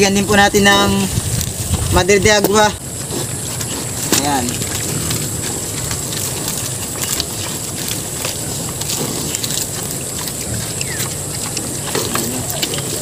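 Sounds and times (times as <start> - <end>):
pigs crunching and snuffling: 0.0 - 13.0.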